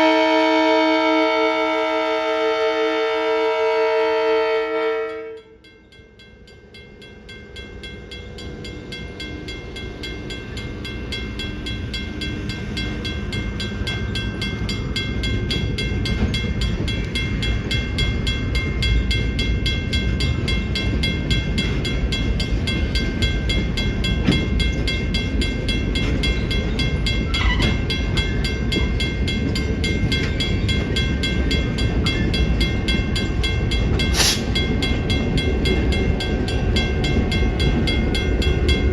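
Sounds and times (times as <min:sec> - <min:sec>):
crossing bell ringing: 0:00.0 - 0:38.9
train rumbling: 0:00.0 - 0:38.9.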